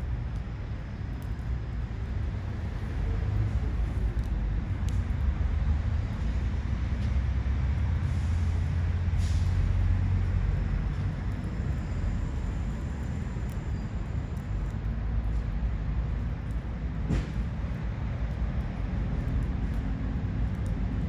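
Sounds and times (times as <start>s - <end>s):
firewood burning: 0.0s - 21.0s
low rumble with hiss: 0.0s - 21.0s.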